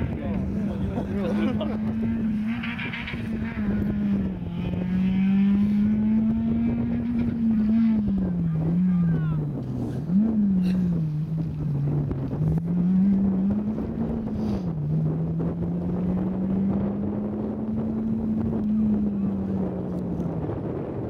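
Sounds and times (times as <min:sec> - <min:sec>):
car engine revving: 0:00.0 - 0:21.0
wind buffeting microphone: 0:00.0 - 0:21.0.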